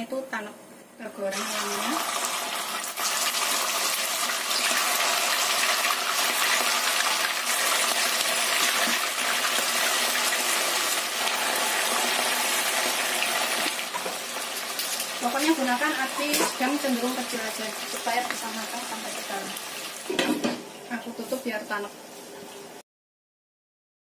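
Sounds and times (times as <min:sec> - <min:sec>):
chicken sizzling in hot oil: 0:01.3 - 0:21.7.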